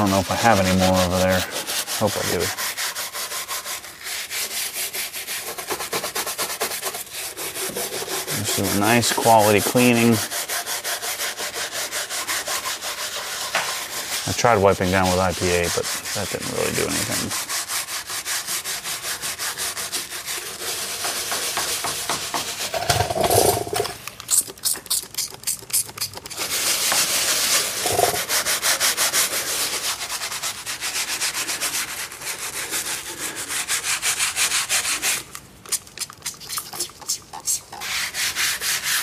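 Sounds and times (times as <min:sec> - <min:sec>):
bristle brush scrubbing plastic: 0:00.0 - 0:39.0.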